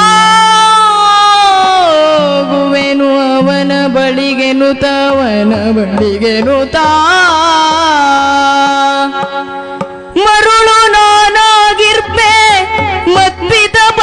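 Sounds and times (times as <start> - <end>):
hand drum accompaniment: 0.0 - 14.0
woman singing: 0.0 - 14.0.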